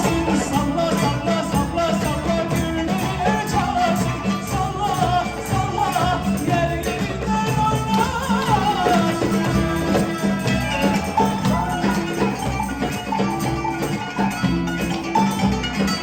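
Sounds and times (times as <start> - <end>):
live instrumental folk music: 0.0 - 16.0
tambourine-like percussion: 0.0 - 16.0.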